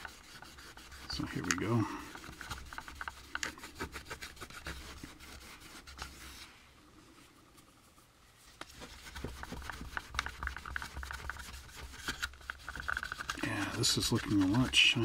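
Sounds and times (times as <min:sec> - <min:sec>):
cloth rubbing plastic: 0:00.0 - 0:06.7, 0:07.6 - 0:15.0.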